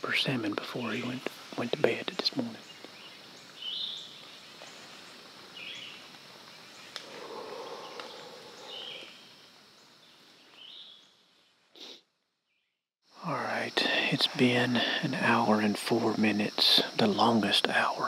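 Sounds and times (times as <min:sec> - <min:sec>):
high insect-like hiss: 0:00.0 - 0:12.0, 0:13.0 - 0:18.0.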